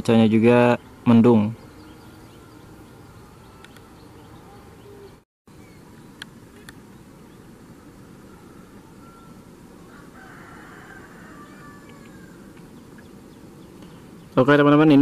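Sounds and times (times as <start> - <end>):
faint birds: 0.0 - 15.0
faint insects: 0.0 - 15.0
steady outdoor hiss: 0.0 - 15.0.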